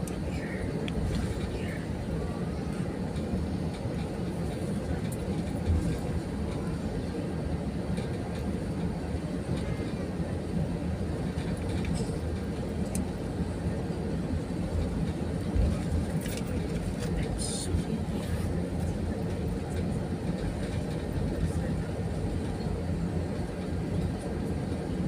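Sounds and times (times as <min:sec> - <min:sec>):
jet cabin engine rumble: 0:00.0 - 0:25.0.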